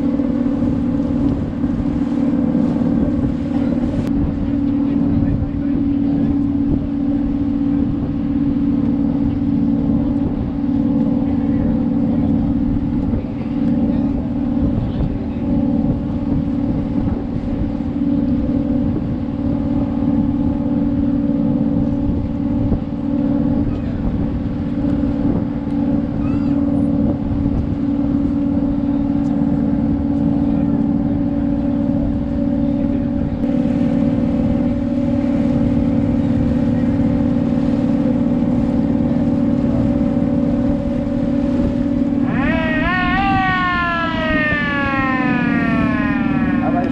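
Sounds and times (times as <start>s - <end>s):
boat engine humming: 0.0s - 46.9s.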